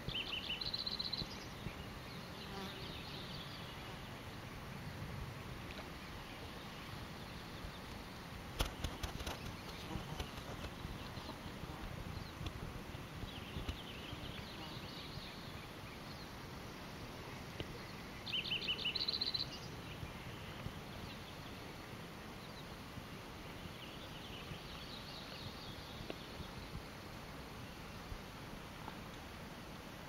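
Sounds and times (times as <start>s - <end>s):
small birds chirping: 0.0s - 4.2s, 5.9s - 22.8s, 23.5s - 27.2s
steady low background noise: 0.0s - 30.0s.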